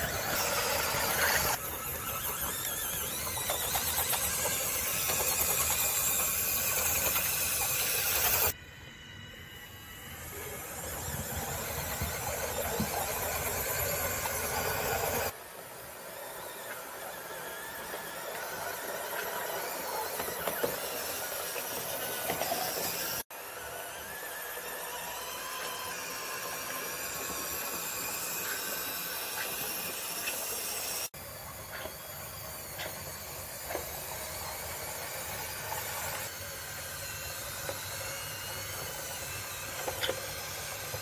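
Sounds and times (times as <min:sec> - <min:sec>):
small electric gear motors whining: 0:00.0 - 0:41.0.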